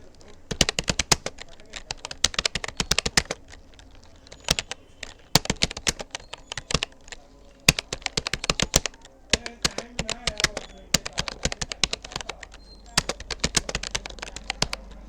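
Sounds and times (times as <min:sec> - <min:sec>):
typing on computer keyboard: 0:00.0 - 0:15.0.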